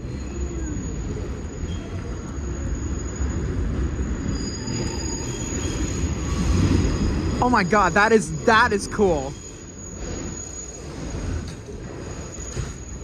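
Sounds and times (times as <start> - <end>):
wheels rumbling on rail: 0.0 - 13.0
wheels squealing: 0.0 - 13.0.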